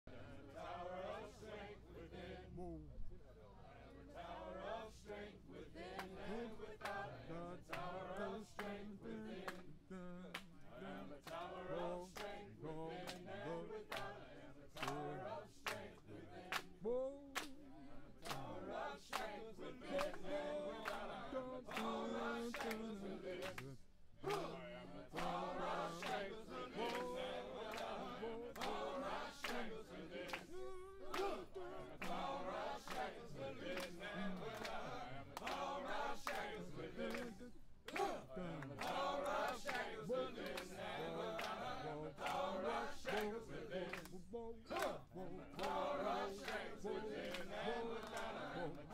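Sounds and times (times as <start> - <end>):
crowd singing in unison: 0.0 - 2.8, 3.5 - 48.9
rhythmic hand clapping: 5.8 - 48.9.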